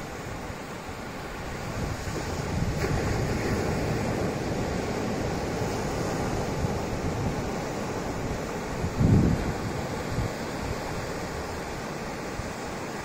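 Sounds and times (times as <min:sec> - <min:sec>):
surf washing up a sandy beach: 0:00.0 - 0:13.0.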